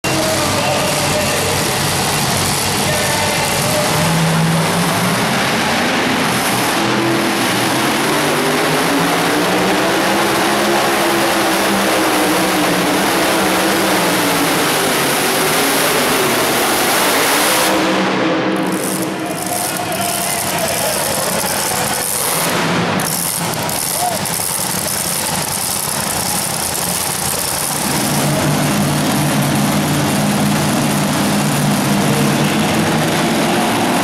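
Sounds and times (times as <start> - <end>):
truck engine at full throttle: 0.0 - 34.0.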